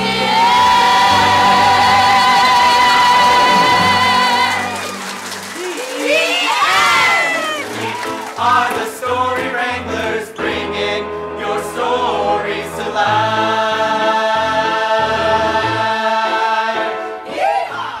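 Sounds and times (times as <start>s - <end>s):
group of voices singing: 0.0s - 5.1s, 7.2s - 18.0s.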